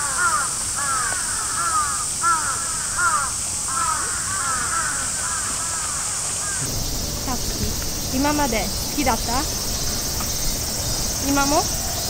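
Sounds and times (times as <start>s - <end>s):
crows cawing: 0.0s - 12.0s
steady high hiss: 0.0s - 12.0s.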